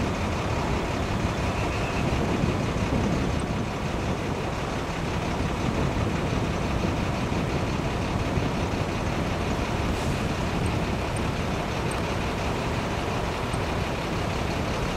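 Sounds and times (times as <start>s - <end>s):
jet airliner engines overhead: 0.0s - 14.9s.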